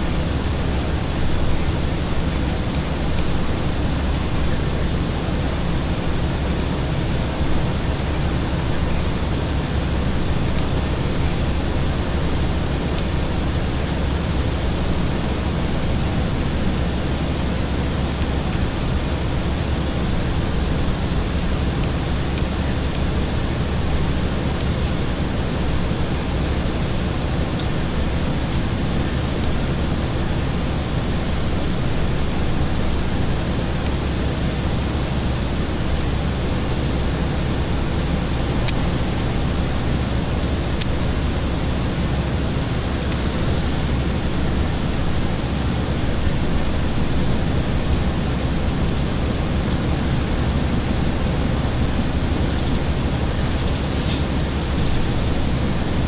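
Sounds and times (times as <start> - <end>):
train diesel engine rumble: 0.0 - 56.0.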